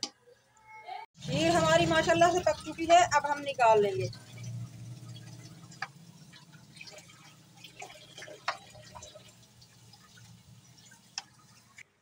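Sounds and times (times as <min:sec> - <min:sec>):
low steady hum: 0:01.2 - 0:11.6.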